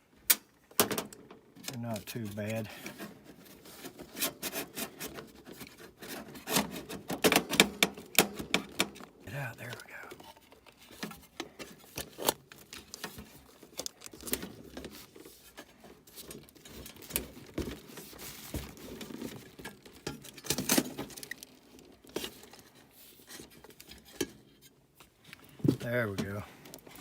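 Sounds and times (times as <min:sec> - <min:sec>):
rattles and rustling scrapes: 0:01.6 - 0:27.0.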